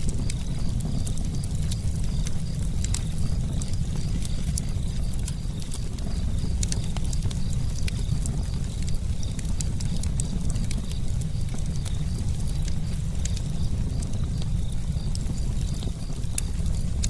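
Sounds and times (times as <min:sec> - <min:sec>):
campfire crackling: 0:00.0 - 0:17.0
low rumble of burning wood: 0:00.0 - 0:17.0.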